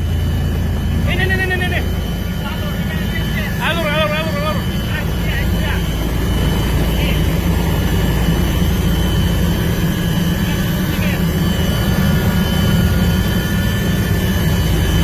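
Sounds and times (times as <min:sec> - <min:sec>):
loud engine drone: 0:00.0 - 0:15.0.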